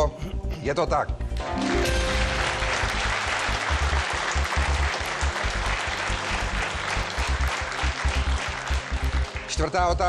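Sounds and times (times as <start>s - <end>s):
game-show music with pulsing beat: 0.0s - 10.0s
audience applauding: 1.4s - 9.9s.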